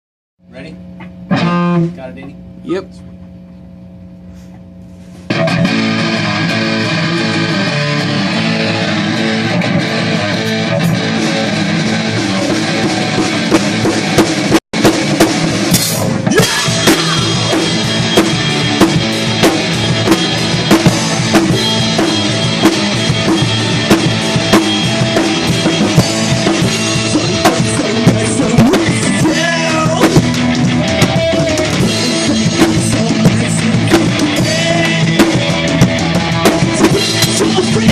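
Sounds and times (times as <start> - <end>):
amp hum: 0.4 - 37.9
bass guitar: 0.4 - 37.9
electric guitar: 0.8 - 2.3, 5.3 - 37.9
drum kit: 5.1 - 37.9.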